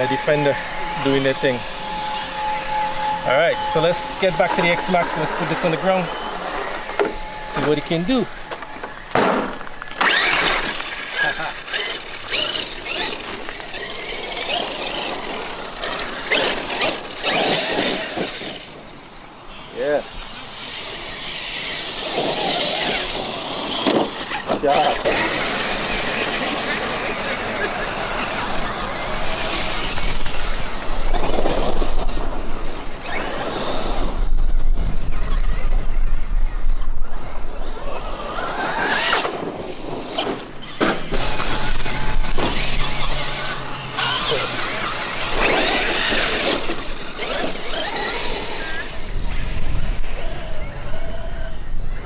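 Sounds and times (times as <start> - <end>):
drivetrain gears whirring: 0.0 - 52.0
electric motor whining: 0.0 - 52.0
rc truck rumbling: 0.0 - 52.0.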